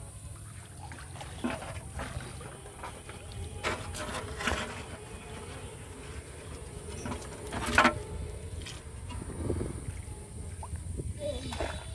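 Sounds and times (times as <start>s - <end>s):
water splashing and dripping: 0.2s - 11.9s.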